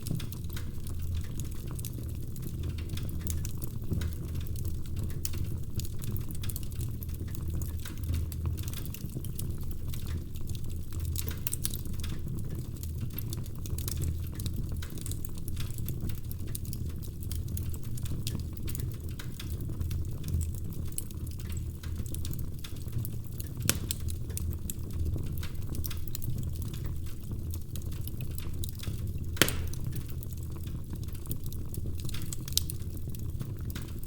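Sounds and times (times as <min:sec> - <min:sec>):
fire flames rumbling: 0:00.0 - 0:34.0
logs crackling and popping: 0:00.0 - 0:34.0.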